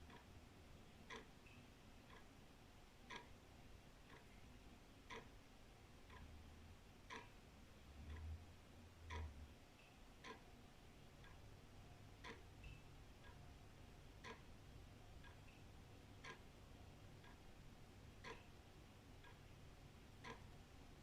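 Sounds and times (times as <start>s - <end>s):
wall clock ticking: 0.0s - 21.0s.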